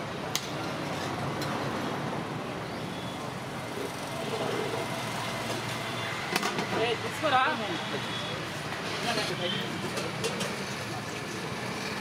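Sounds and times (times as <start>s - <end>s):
roadside traffic noise: 0.0s - 12.0s.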